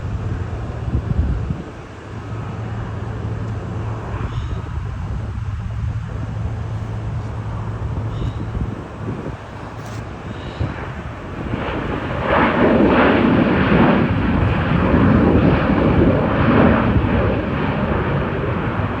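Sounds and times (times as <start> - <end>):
jet engine roar passing: 0.0 - 19.0.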